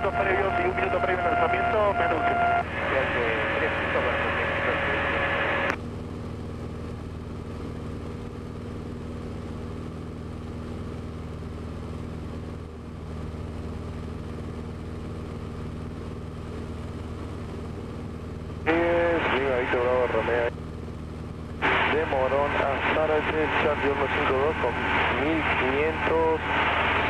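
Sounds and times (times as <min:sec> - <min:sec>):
aircraft engine and propeller droning: 0:00.0 - 0:27.0.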